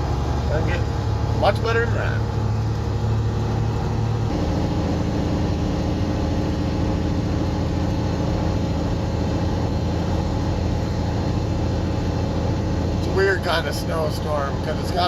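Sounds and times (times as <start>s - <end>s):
truck diesel engine droning: 0.0s - 15.0s.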